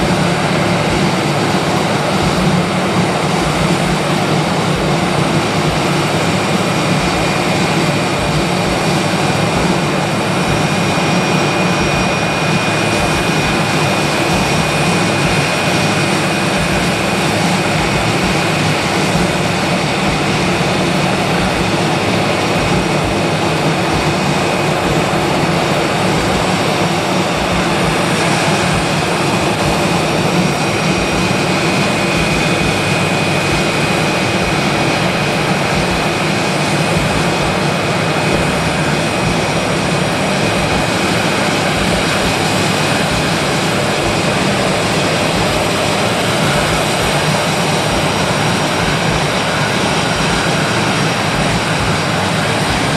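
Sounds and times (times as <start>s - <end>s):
jet engine roar in cabin: 0.0s - 52.9s
thin high whine: 0.0s - 52.9s.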